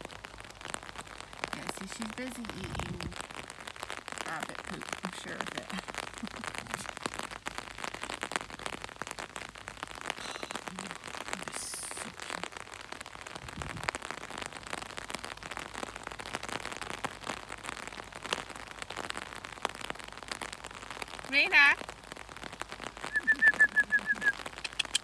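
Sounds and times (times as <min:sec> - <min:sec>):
raindrops ticking on umbrella: 0:00.0 - 0:25.0
steady rain: 0:00.0 - 0:25.0.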